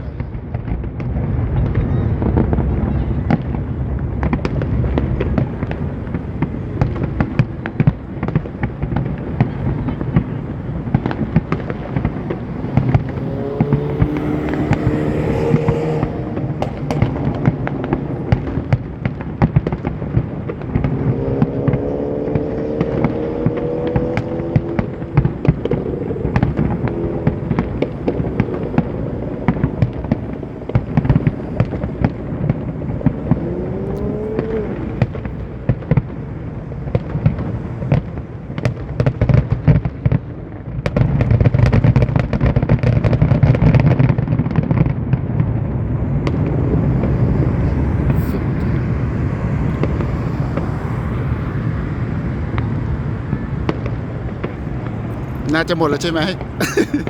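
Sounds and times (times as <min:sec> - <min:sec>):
distant fireworks booms: 0:00.0 - 0:57.0
fireworks bangs and crackles: 0:00.0 - 0:57.0.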